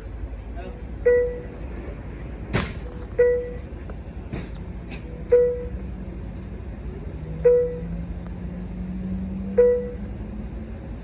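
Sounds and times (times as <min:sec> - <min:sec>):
idling train hum: 0:00.0 - 0:11.0.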